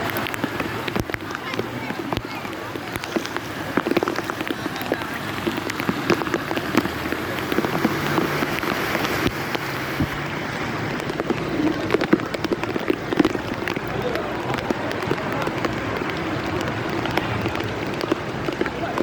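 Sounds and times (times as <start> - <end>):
heavy rain falling: 0.0 - 19.0
raindrops hitting a surface: 0.0 - 19.0.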